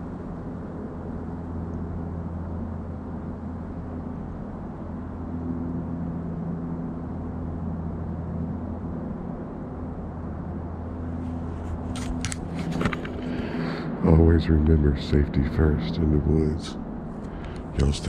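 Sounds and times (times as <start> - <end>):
low engine drone: 0.0 - 18.0.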